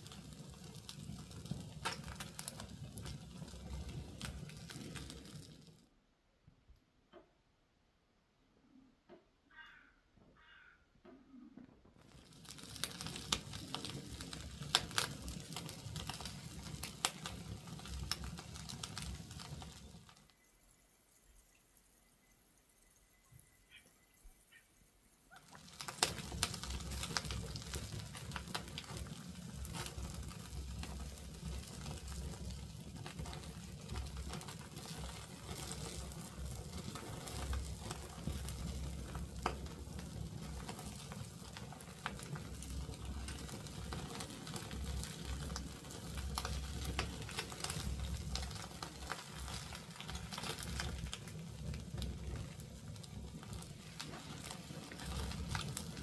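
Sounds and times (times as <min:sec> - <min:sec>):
wood fire crackling and popping: 0:00.0 - 0:05.9, 0:12.0 - 0:56.0.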